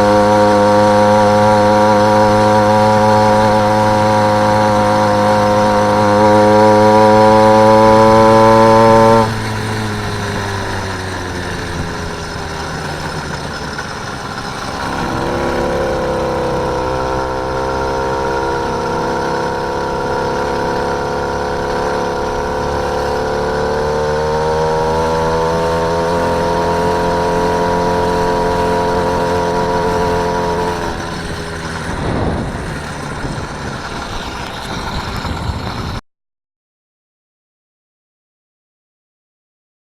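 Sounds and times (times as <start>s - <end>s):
small engine revving: 0.0s - 36.0s.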